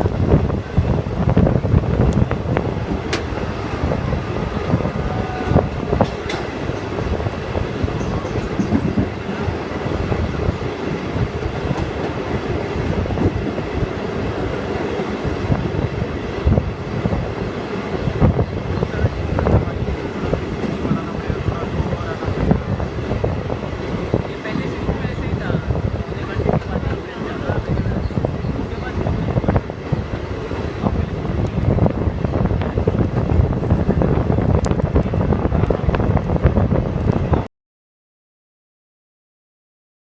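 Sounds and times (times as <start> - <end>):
electric train rumble: 0.0 - 37.5.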